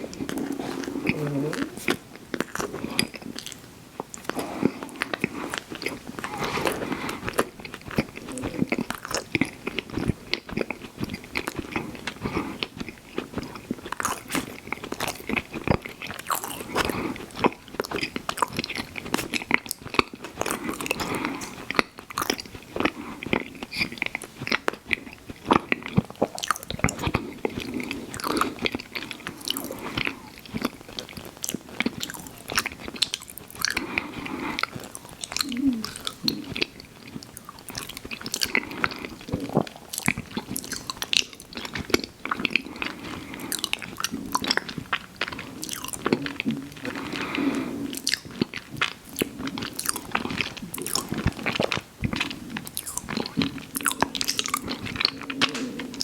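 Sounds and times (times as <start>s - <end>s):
eating ice cream with crunches: 0.0s - 56.0s.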